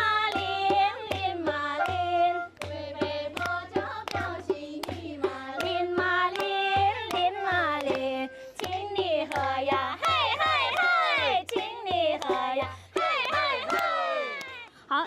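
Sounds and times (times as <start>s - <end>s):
steady drumbeat: 0.0s - 14.4s
high voices singing: 0.0s - 14.7s.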